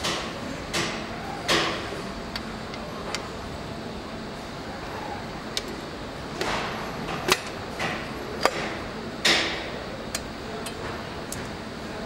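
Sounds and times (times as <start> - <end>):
factory background noise: 0.0 - 12.0.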